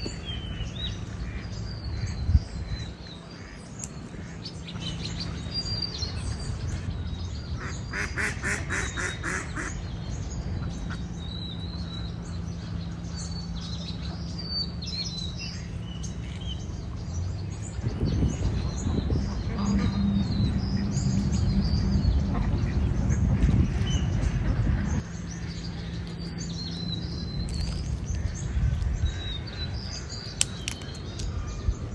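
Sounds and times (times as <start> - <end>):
birds calling: 0.0 - 31.9
steady low rumble: 0.0 - 31.9.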